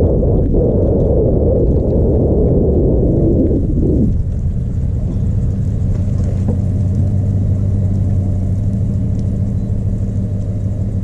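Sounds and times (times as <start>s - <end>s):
engine running: 2.1s - 11.0s.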